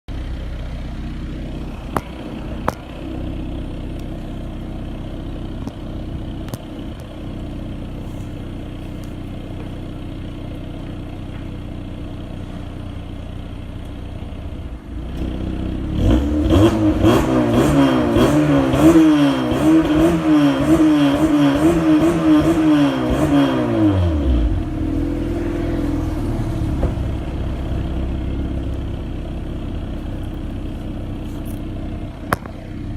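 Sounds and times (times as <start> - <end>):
car engine idling and revving: 0.1 - 32.9.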